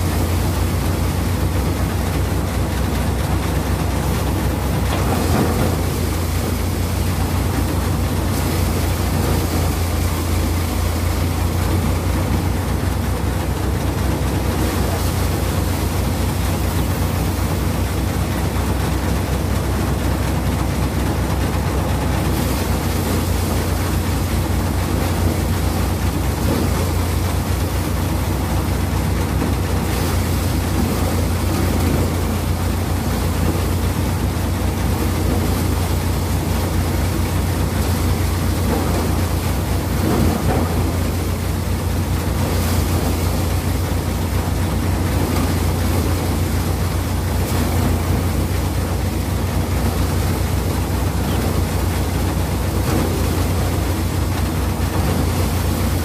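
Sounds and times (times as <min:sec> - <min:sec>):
paddy thresher running: 0:00.0 - 0:56.0.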